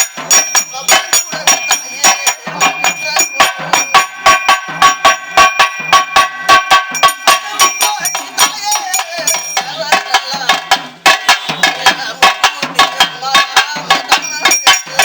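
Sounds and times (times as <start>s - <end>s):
metallic bell ringing: 0.0s - 15.0s
sharp drum strokes: 0.0s - 15.0s.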